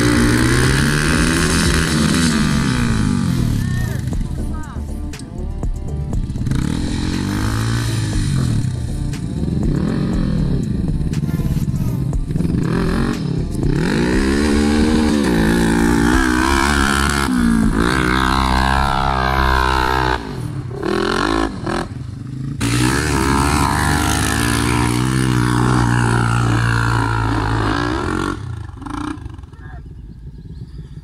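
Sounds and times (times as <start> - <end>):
quad engine revving: 0.0 - 29.9.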